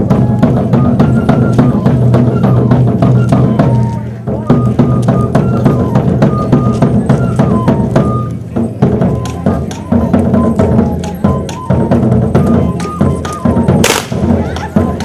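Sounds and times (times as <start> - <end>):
quick drum beats: 0.0 - 15.0.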